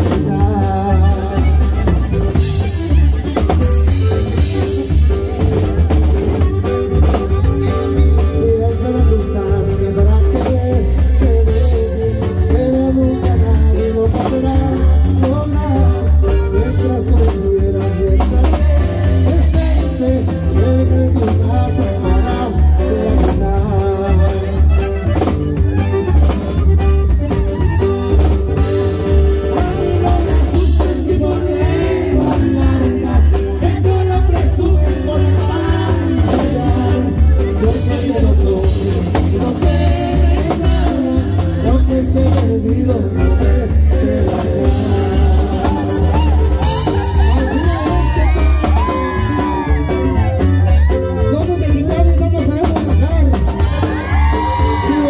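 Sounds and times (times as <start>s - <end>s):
bass line: 0.0s - 55.0s
button accordion: 0.0s - 55.0s
drums: 0.0s - 55.0s.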